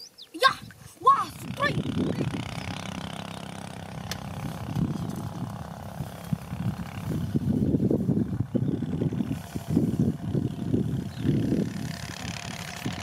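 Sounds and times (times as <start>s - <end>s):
wind buffeting microphone: 0.4s - 13.0s.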